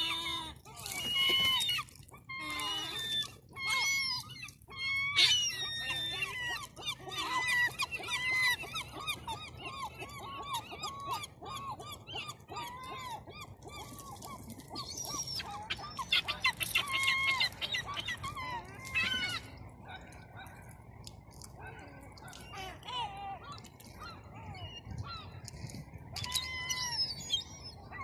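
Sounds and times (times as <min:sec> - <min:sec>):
gulls calling: 0:00.0 - 0:28.0.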